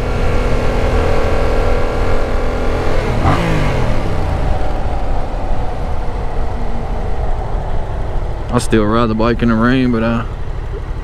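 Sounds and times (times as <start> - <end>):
wind rush: 0.0 - 9.5
motorcycle engine running: 0.0 - 11.0.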